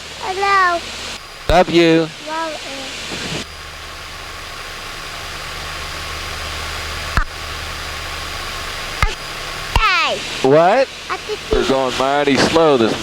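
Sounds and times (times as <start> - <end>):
constant hiss: 0.0 - 13.0
piston engines humming in cabin: 0.0 - 13.0.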